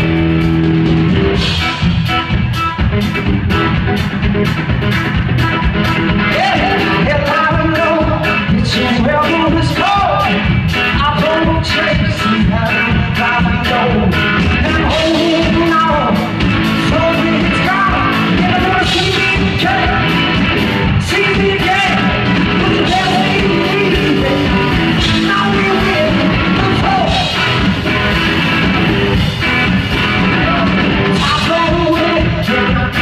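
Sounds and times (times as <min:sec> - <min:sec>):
drum kit playing: 0:00.0 - 0:33.0
electric guitar: 0:00.0 - 0:33.0.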